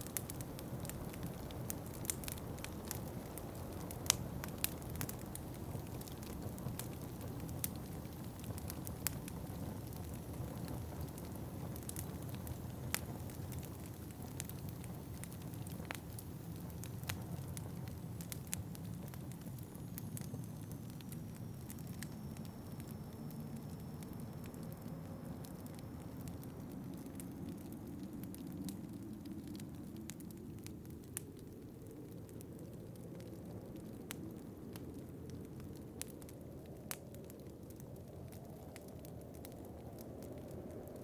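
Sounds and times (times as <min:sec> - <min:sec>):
sharp pops of fire: 0:00.0 - 0:40.6
low rumble of wind: 0:00.0 - 0:41.0
wood fire crackling: 0:00.0 - 0:41.0.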